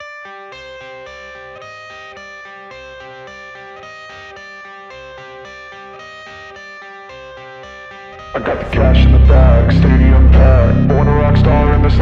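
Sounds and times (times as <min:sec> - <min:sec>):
plucked guitar notes: 0:00.6 - 0:12.0.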